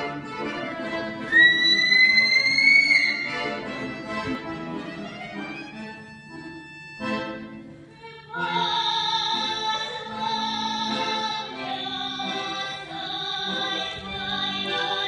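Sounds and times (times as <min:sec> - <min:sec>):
folk music accompaniment: 0:00.0 - 0:15.0.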